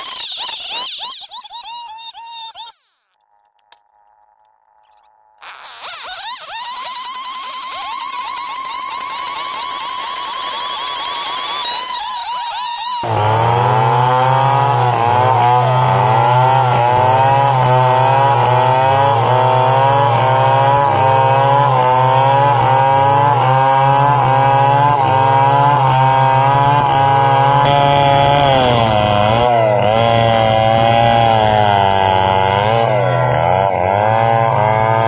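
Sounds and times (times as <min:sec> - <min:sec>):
chainsaw cutting a log: 0:00.0 - 0:02.7, 0:05.4 - 0:35.0.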